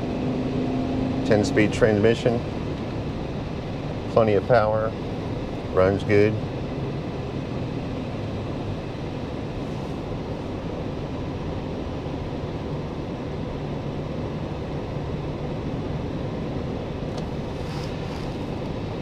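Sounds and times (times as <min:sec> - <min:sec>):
car engine running at cruise: 0:00.0 - 0:19.0.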